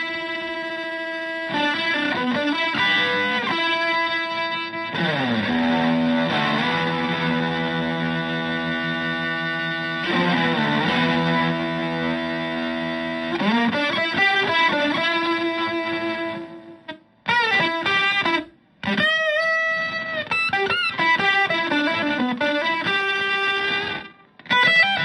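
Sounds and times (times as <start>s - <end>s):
fuzz electric guitar: 0.0s - 25.0s.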